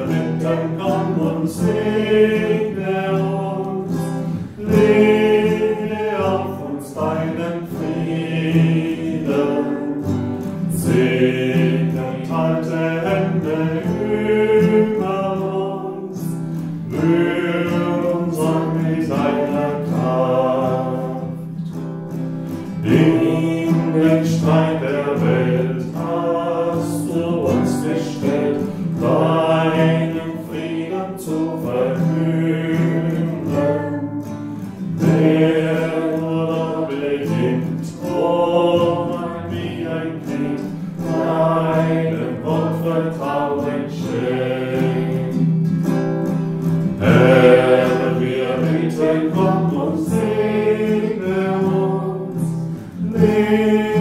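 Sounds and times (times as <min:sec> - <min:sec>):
guitar accompaniment: 0:00.0 - 0:54.0
voices singing a hymn: 0:00.0 - 0:54.0.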